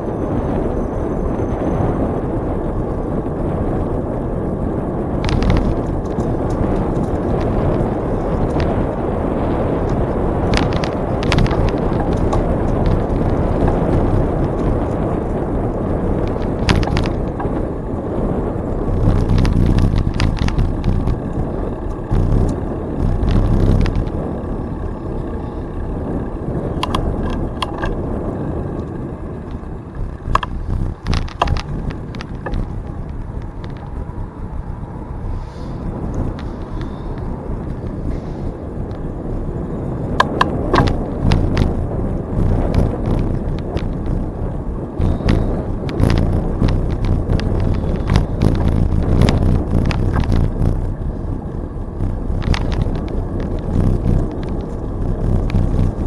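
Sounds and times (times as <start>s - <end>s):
bicycle rumble on trail: 0.0s - 56.0s
bike clicks and rattles: 0.0s - 56.0s
wind noise: 0.0s - 56.0s.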